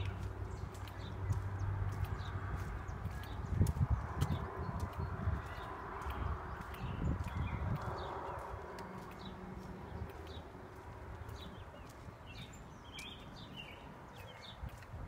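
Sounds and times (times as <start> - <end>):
outdoor background hum: 0.0 - 15.0
small birds chirping: 0.0 - 15.0.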